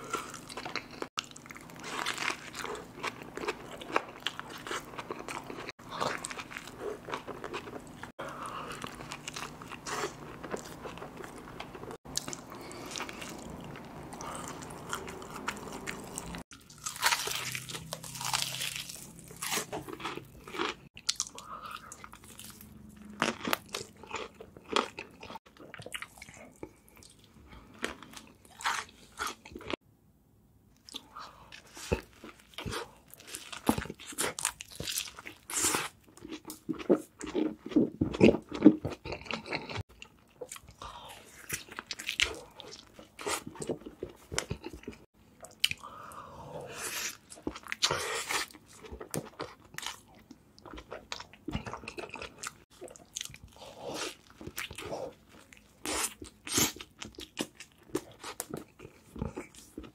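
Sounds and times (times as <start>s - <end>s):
chewing: 0.0s - 29.8s, 30.8s - 59.9s.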